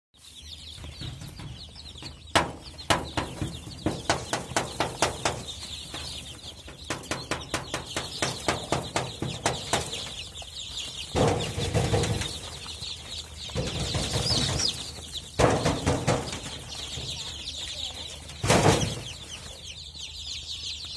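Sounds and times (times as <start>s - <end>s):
chicks peeping: 0.2s - 20.9s.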